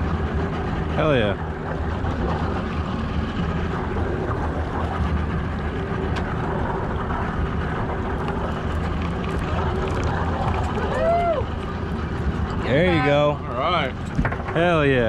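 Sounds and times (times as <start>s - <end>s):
boat engine idling: 0.0s - 15.0s
water noise: 0.0s - 15.0s
wind: 0.0s - 15.0s.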